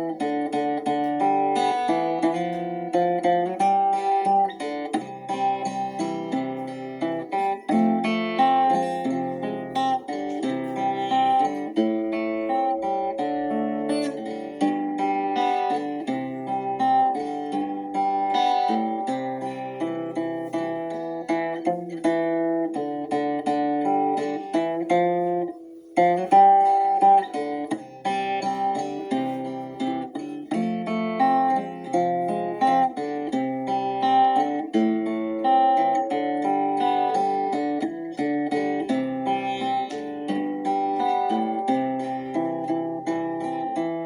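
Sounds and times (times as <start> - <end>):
plucked acoustic guitar music: 0.0 - 44.0.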